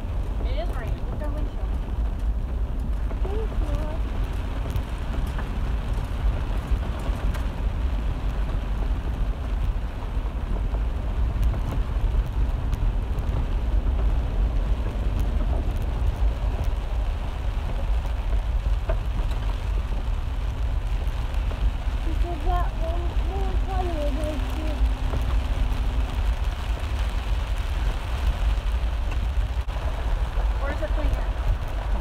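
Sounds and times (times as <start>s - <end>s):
engine and tyres rumbling: 0.0s - 32.0s
rain hitting windshield: 0.0s - 32.0s.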